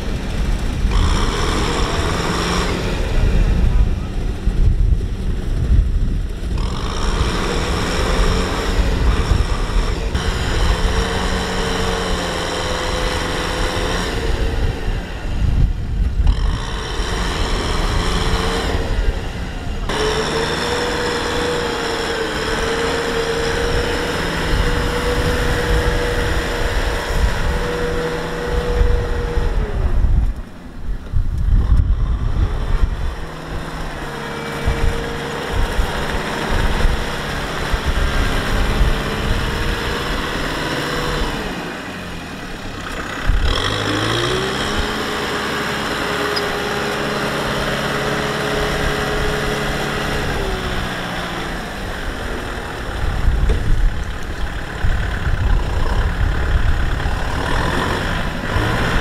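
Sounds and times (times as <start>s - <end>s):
diesel tractor engine under load: 0.0s - 59.0s
steady whine: 0.0s - 59.0s.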